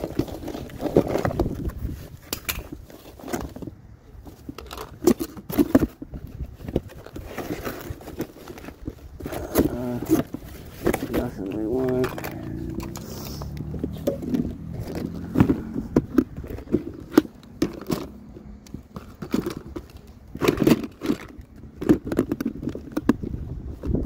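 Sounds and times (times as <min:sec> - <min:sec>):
rummaging through junk: 0:00.0 - 0:24.0.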